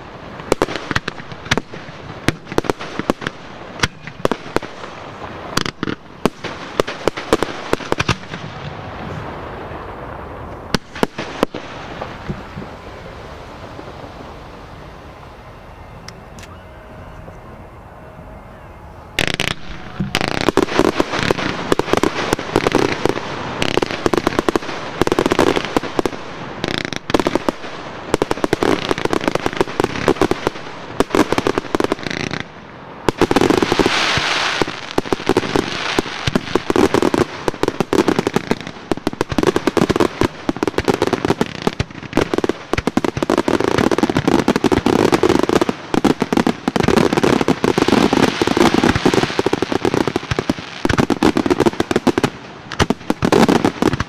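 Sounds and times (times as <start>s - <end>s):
fireworks bursting and crackling: 0.0s - 16.6s, 18.4s - 54.0s.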